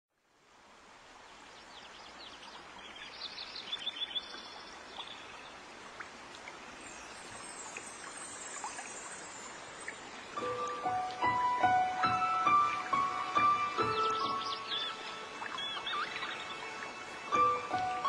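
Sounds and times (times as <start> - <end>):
rushing stream-like noise: 0.1 - 18.0
birds chirping: 1.3 - 18.0.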